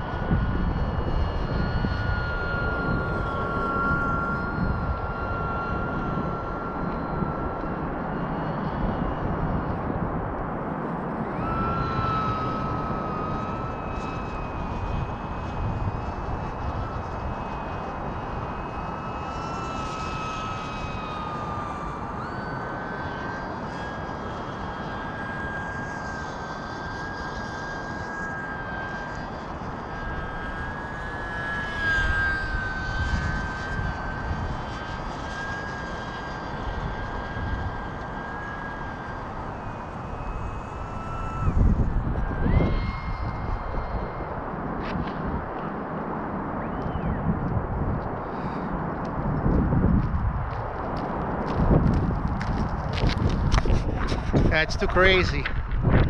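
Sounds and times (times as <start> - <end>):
model plane propeller whining: 0.0 - 56.0.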